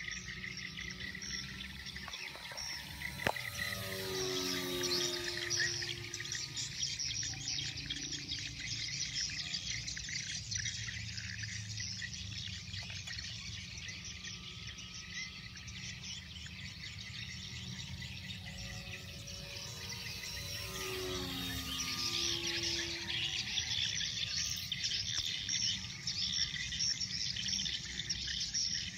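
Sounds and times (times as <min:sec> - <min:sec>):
insects chirring: 0:00.0 - 0:28.6.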